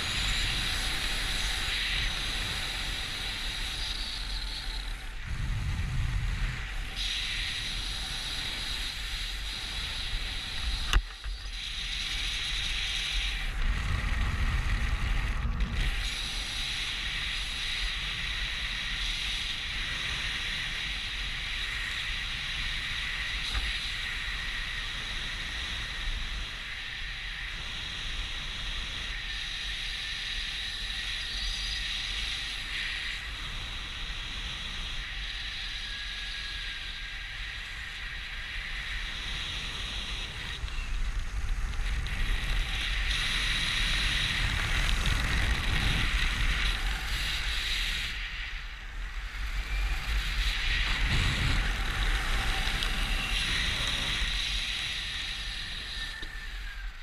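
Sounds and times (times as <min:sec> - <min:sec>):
low rumbling wind buffets: 0:00.0 - 0:57.0
rushing wind on microphone: 0:00.0 - 0:57.0.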